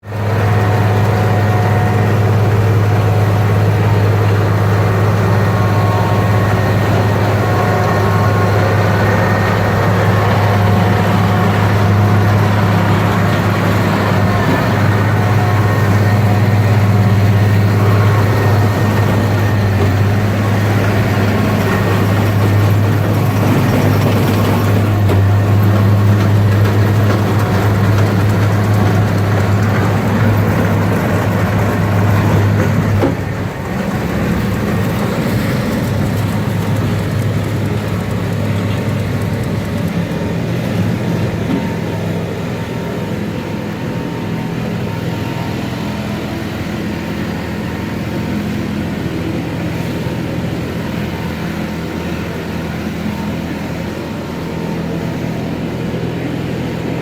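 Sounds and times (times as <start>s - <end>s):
machine engine droning: 0.0s - 57.0s.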